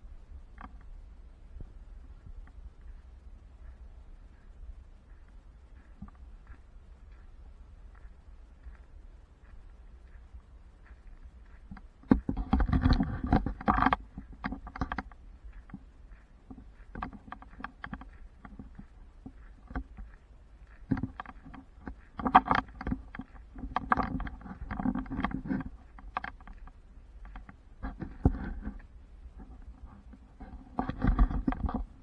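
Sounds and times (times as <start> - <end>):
rustling and scraping on microphone: 0.0 - 32.0.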